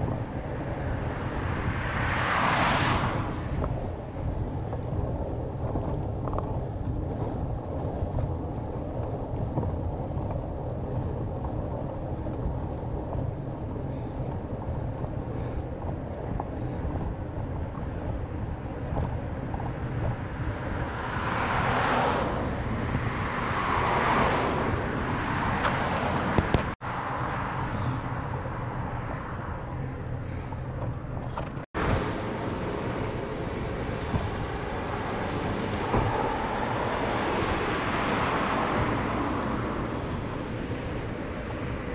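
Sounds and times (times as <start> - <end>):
car passing: 0.0 - 41.9
wind buffeting microphone: 0.0 - 41.9
steady low rumble: 3.0 - 21.5, 24.6 - 41.9.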